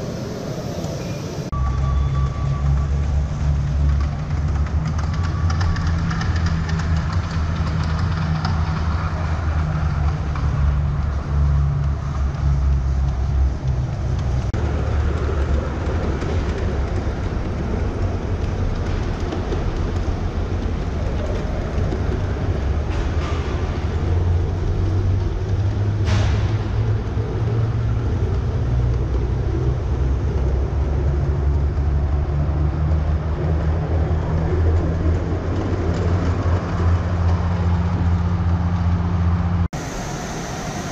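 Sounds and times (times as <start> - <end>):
train wagons rumbling on rails: 0.0 - 40.9.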